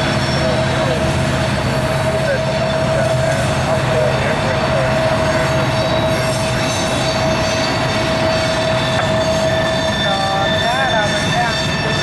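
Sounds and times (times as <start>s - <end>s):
rumble of rail cars: 0.0s - 12.0s
train wheels squealing on rail: 0.0s - 12.0s.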